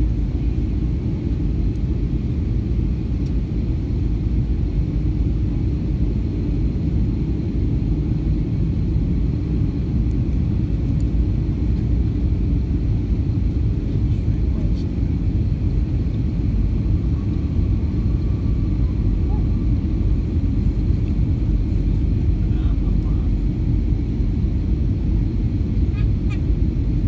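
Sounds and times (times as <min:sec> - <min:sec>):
airplane engines rumbling: 0:00.0 - 0:27.0.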